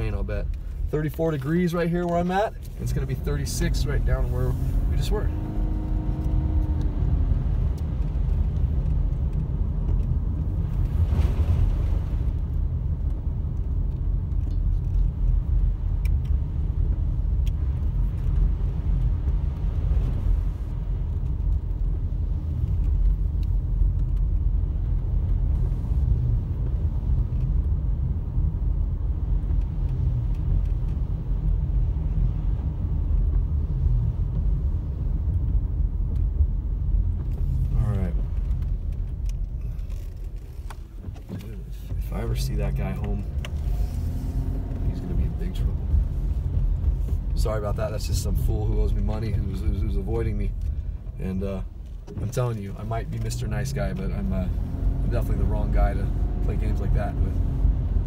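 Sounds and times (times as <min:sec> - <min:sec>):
car engine rumble from inside: 0:00.0 - 0:58.0
tyres on wet road: 0:00.0 - 0:58.0.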